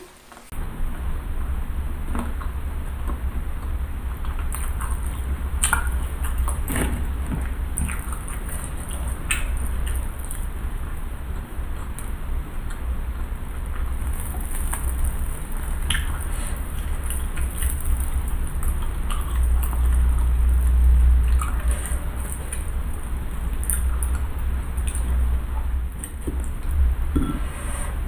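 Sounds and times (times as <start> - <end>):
fried food crackling: 0.0 - 27.1
steady low rumble: 0.5 - 27.4
chewing: 3.6 - 27.4.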